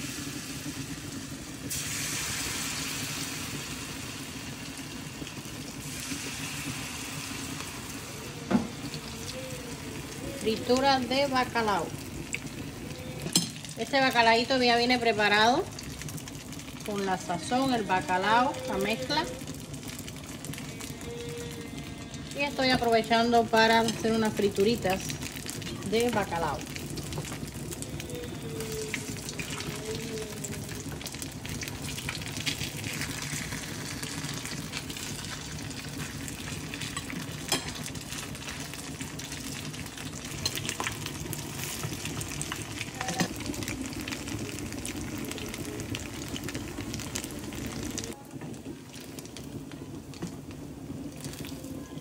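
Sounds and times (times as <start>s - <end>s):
fritters sizzling in hot oil: 0.0s - 52.0s.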